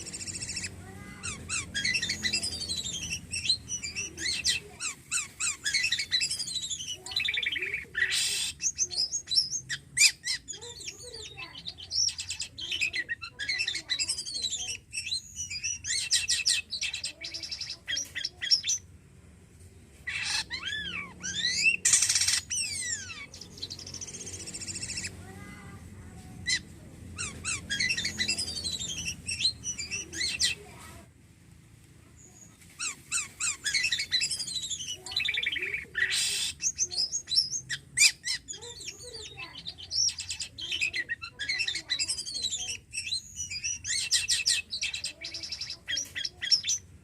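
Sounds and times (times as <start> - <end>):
starling singing: 0.0 - 18.9, 20.0 - 30.9, 32.2 - 47.0.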